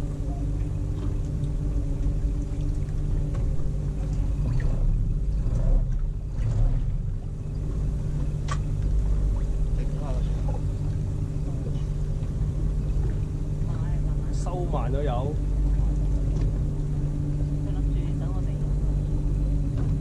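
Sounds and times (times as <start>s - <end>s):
boat engine humming: 0.0s - 20.0s
water sloshing around hull: 0.0s - 20.0s.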